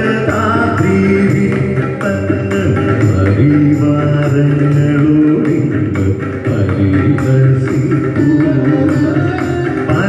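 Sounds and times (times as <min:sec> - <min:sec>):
band accompaniment: 0:00.0 - 0:10.0
man singing into a microphone: 0:00.0 - 0:10.0.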